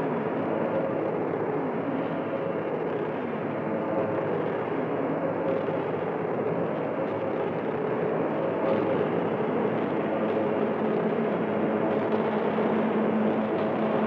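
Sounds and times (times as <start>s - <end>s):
droning noise music: 0.0s - 14.0s.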